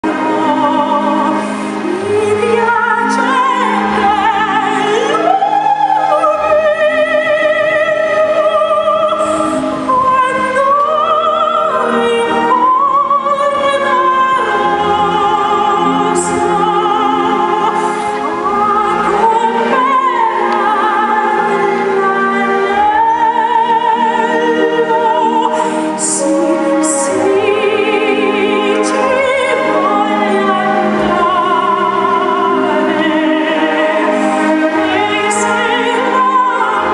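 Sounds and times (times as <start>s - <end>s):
operatic singing with vibrato: 0.0s - 36.9s
orchestral accompaniment: 0.0s - 36.9s.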